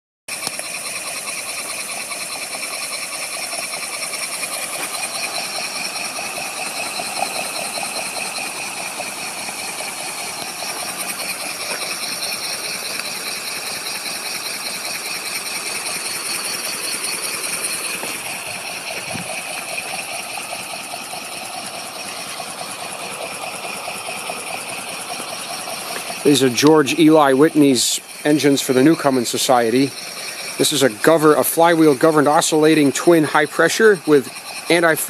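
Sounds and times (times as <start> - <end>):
steam engine clatter: 0.3 - 35.0.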